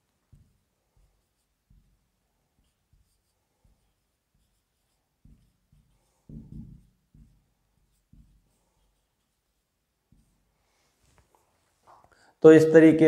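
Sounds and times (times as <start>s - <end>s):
marker writing on whiteboard: 0.0s - 11.5s.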